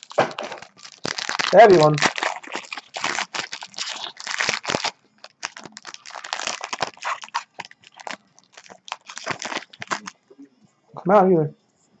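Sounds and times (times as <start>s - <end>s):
packaging crinkling and tearing: 0.0s - 10.2s.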